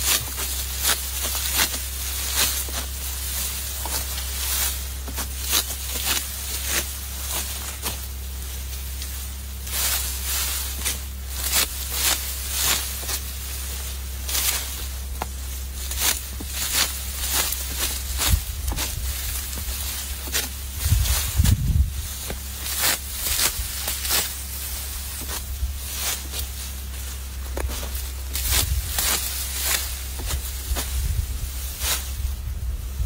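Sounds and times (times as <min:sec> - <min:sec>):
sickle cutting dry stalks: 0:00.0 - 0:33.0
straw rustling: 0:00.0 - 0:33.0.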